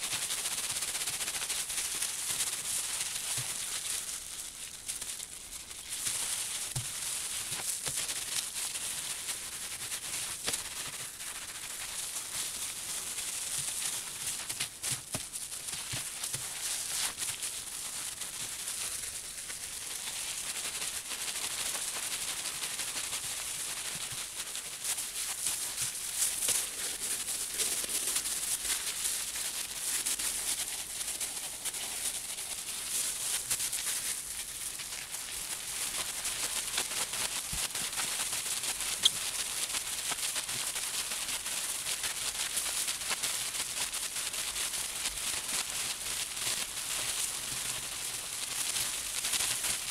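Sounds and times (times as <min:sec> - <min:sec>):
crinkly rustle of bubble wrap: 0:00.0 - 0:49.9
wet squishes of soapy felt: 0:00.1 - 0:49.9.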